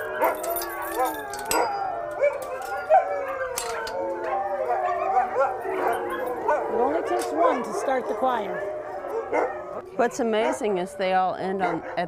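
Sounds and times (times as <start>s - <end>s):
wolves howling in chorus: 0.0s - 12.0s.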